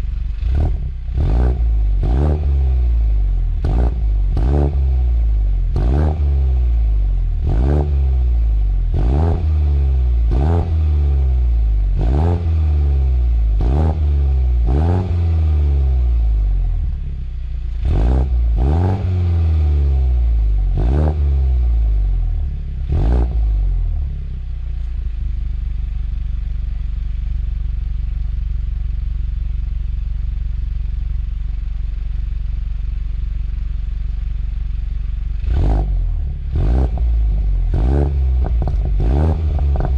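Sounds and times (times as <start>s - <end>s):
car engine idling: 0.0s - 18.7s, 19.5s - 39.9s
car engine revving: 0.0s - 30.7s, 31.4s - 39.9s.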